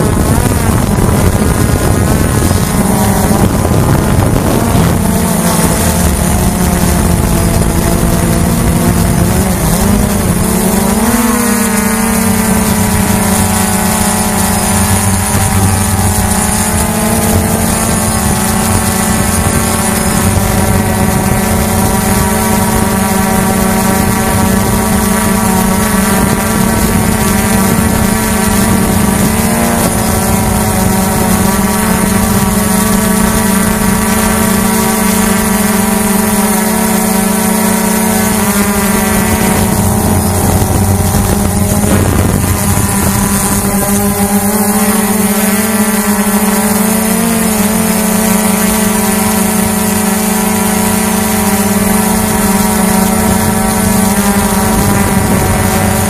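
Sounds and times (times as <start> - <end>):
quadcopter propellers whining: 0.0 - 56.0.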